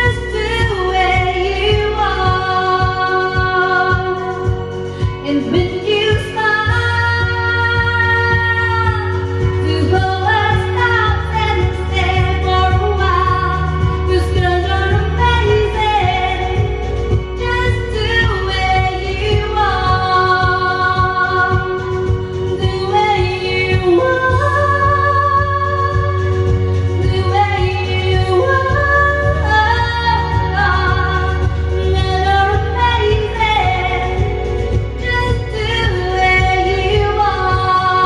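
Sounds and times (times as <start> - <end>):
pop backing music with bass: 0.0 - 38.0
woman singing into a microphone: 0.0 - 38.0.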